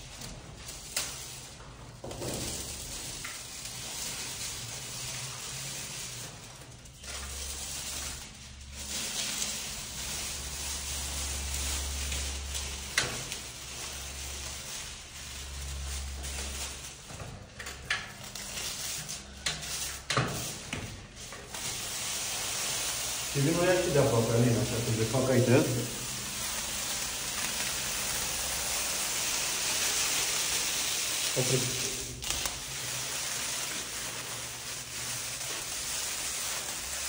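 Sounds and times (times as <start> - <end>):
foil sheets crackling: 0.0 - 37.0.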